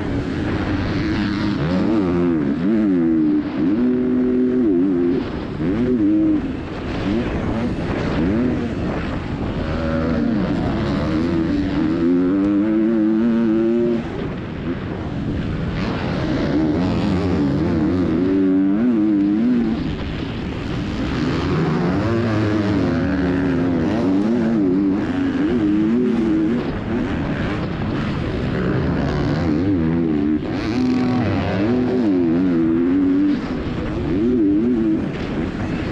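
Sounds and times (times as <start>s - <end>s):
motocross bike engine revving: 0.0s - 35.9s.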